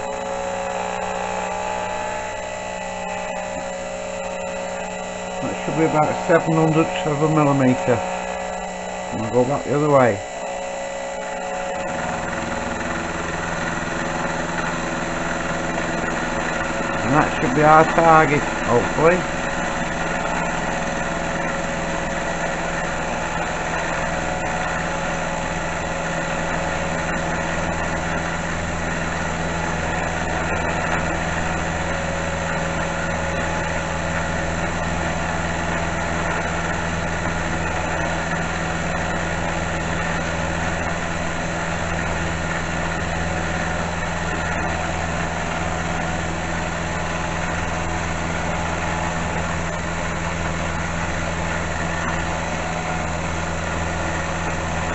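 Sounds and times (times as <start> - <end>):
milling machine motor humming: 0.0 - 54.9.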